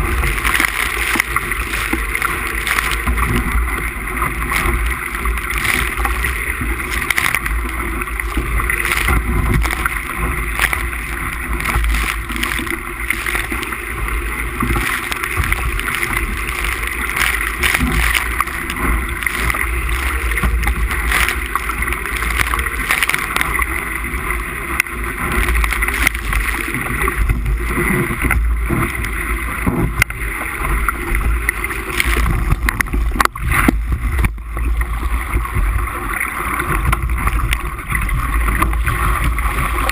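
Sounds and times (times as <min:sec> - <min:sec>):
water splashing along hull: 0:00.0 - 0:39.9.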